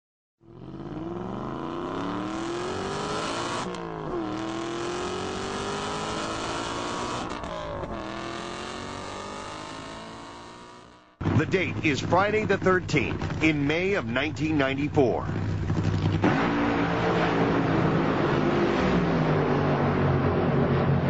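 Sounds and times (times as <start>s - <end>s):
car engine accelerating: 0.4s - 21.0s.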